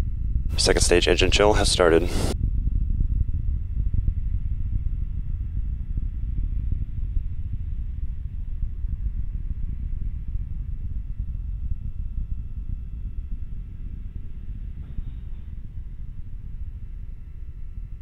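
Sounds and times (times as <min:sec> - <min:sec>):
faint steady whines: 0:00.0 - 0:18.0
rocket engines low rumble: 0:00.0 - 0:18.0.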